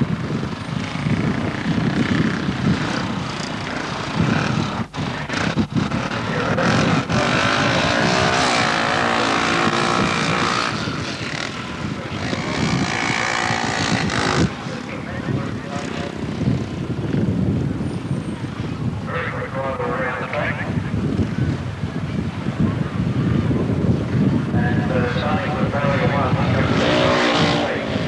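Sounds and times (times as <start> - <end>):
motorbike engine revving: 0.0 - 18.2, 20.9 - 28.0.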